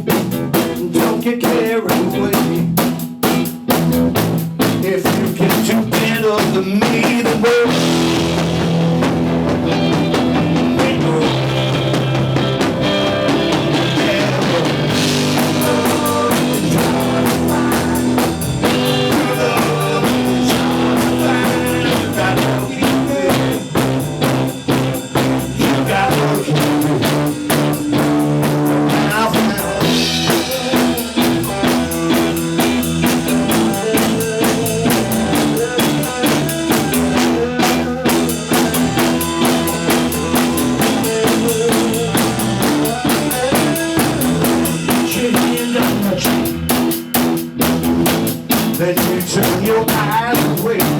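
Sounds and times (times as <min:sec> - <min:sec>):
blues-rock band playing: 0:00.0 - 0:50.9.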